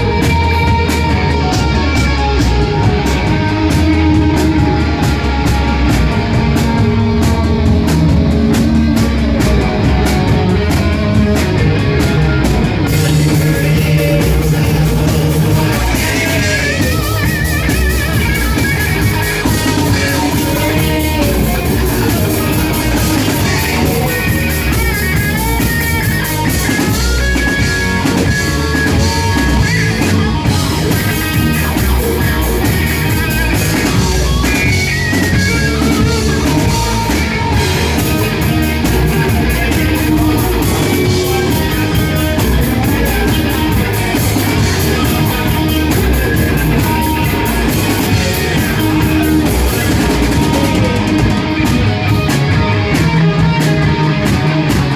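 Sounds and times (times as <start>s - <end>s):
drum kit: 0.0s - 54.9s
electric guitar: 0.0s - 54.9s
rock band playing live: 0.0s - 54.9s.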